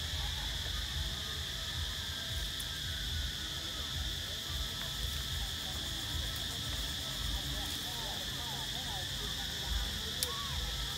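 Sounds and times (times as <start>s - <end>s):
insects droning: 0.0s - 10.9s.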